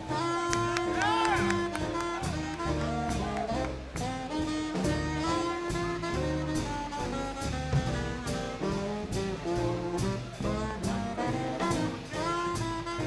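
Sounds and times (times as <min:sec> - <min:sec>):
big band playing: 0:00.0 - 0:13.0
drum beat: 0:00.0 - 0:13.0
saxophones and brass chords: 0:00.0 - 0:13.0.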